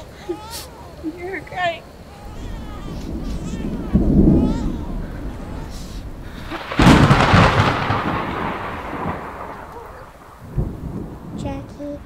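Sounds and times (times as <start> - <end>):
steady rain: 0.0 - 12.0
thunderclap: 0.0 - 12.0.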